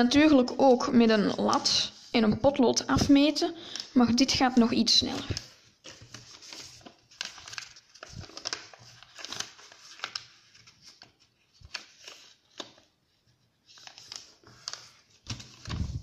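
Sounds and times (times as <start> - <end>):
paper folding and crinkling: 0.6 - 16.0.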